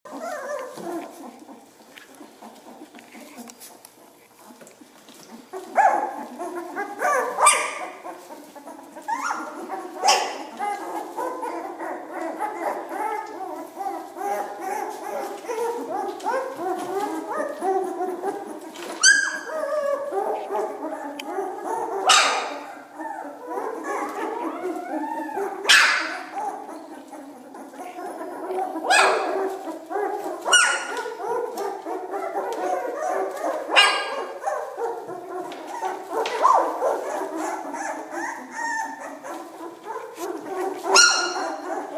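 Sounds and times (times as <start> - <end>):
puppies whining and squealing: 0.1 - 41.9
sharp puppy cries: 5.5 - 41.9.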